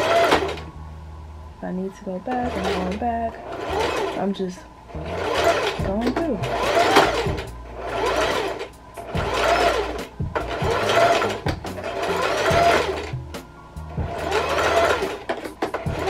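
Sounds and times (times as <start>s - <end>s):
sewing machine motor whine: 0.0s - 0.6s, 2.3s - 4.4s, 5.0s - 13.2s, 13.9s - 16.0s.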